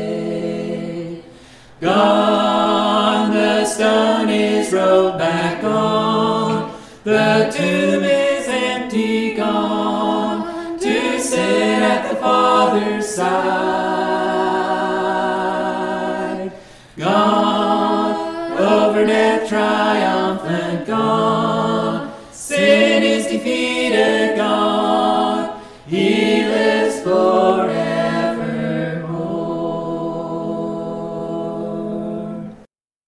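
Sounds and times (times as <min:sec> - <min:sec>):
choir singing a hymn: 0:00.0 - 0:32.7.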